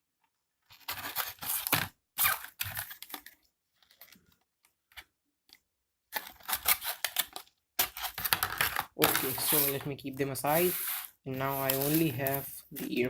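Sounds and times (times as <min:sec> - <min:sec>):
packaging rustling and crinkling: 0:00.7 - 0:04.4, 0:06.2 - 0:13.0.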